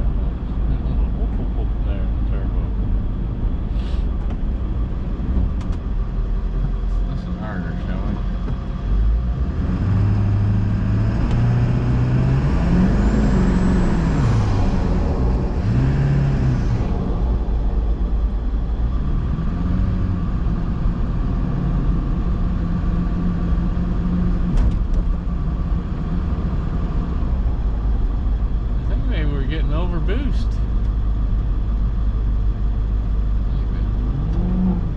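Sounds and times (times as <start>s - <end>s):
diesel truck engine accelerating: 0.0s - 34.9s.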